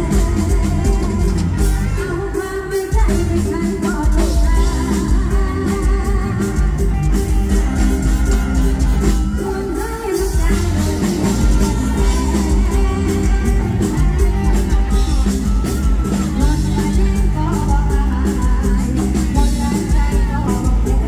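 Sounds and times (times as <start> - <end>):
amplified band with heavy bass: 0.0 - 21.0
person singing: 0.0 - 21.0.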